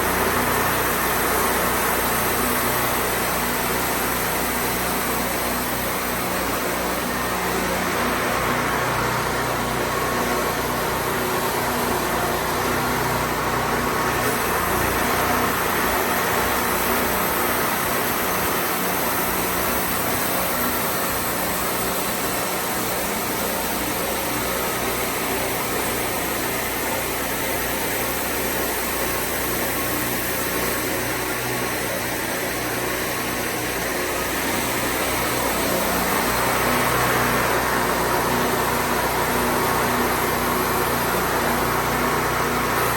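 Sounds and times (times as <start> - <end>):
band sawmill running: 0.0 - 42.9.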